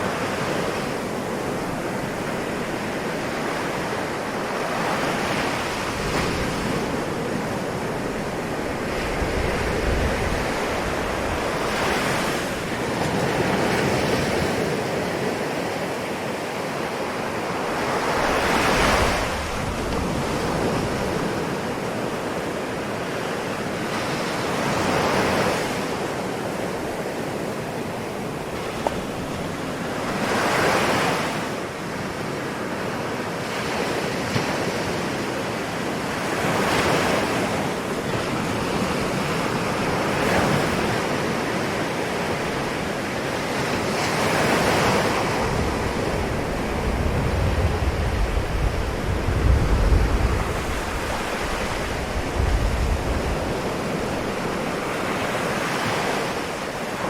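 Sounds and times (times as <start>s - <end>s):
ocean waves surging: 0.0s - 57.0s
surf washing: 0.0s - 57.0s.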